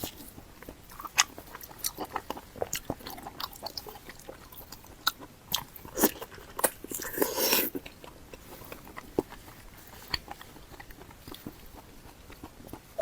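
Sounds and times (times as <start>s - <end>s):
person biting and chewing food: 0.0s - 13.0s.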